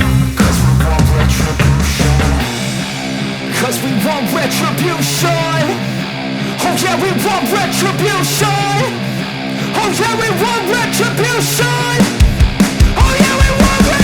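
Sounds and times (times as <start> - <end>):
hard rock music: 0.0 - 14.0.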